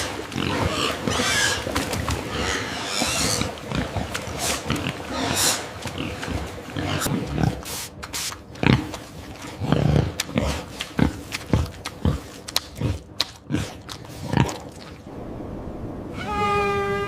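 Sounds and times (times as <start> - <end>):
pig grunting: 0.0 - 1.7, 2.3 - 7.9, 8.6 - 15.0.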